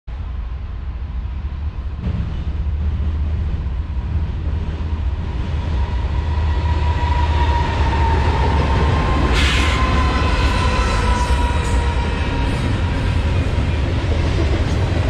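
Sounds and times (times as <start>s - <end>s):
diesel locomotive rumble: 0.1s - 15.0s.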